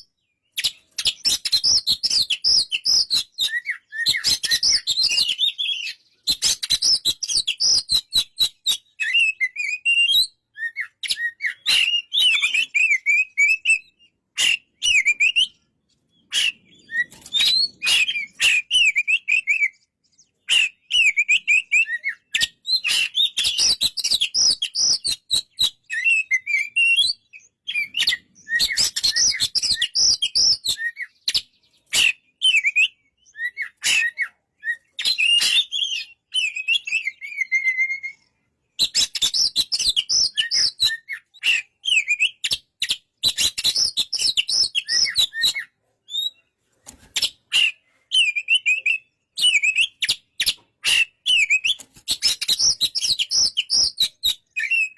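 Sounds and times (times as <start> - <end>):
bird singing whistles and clicks: 0.0 - 54.9.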